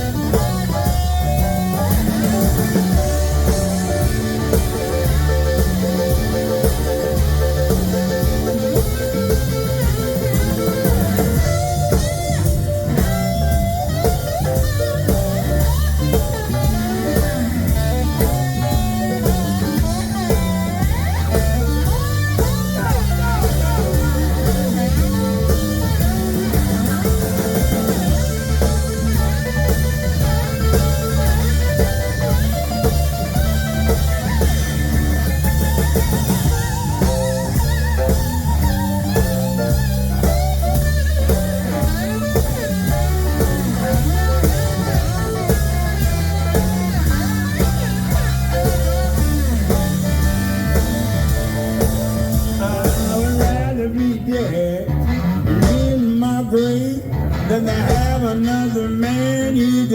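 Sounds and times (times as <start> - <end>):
drum kit beat: 0.0 - 59.9
electric blues band playing: 0.0 - 59.9
lead guitar with bent notes: 0.0 - 59.9.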